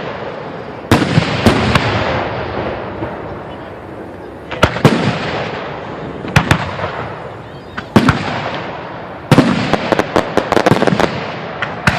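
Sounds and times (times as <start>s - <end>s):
fireworks bangs with echoing rumble: 0.0s - 11.9s
rapid volley of firework cracks: 0.0s - 11.9s.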